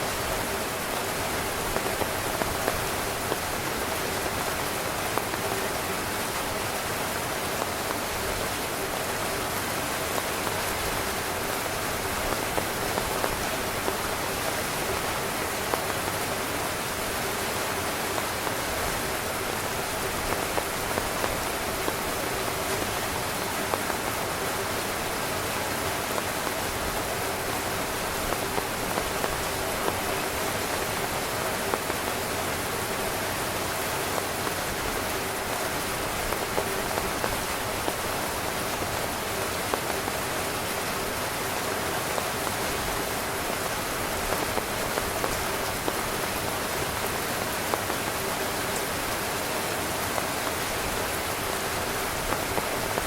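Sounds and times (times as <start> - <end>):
rain falling on a tent: 0.0 - 53.0.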